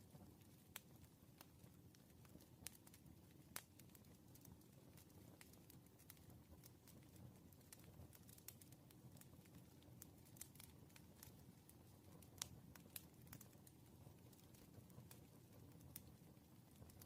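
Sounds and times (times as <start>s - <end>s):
low rumble of burning logs: 0.0s - 17.0s
wood fire crackling: 0.0s - 17.0s.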